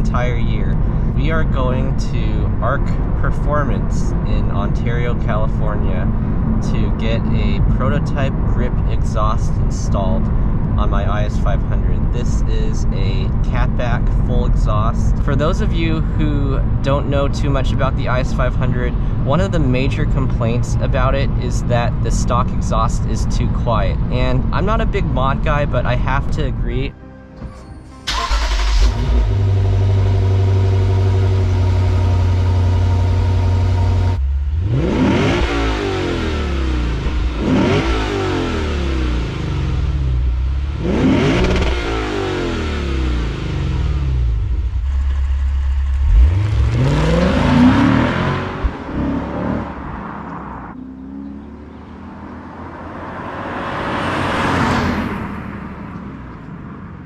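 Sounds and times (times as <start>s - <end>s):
car engine idling: 0.0s - 26.8s, 28.1s - 52.6s
car engine revving: 0.0s - 26.9s, 28.1s - 56.8s
car engine starting: 0.0s - 57.0s.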